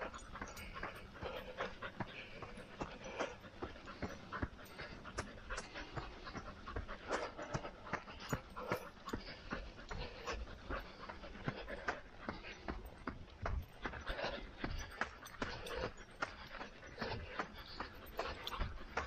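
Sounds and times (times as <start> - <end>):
heavy panting breaths: 0.0 - 19.0
running footsteps on dirt: 0.0 - 19.0.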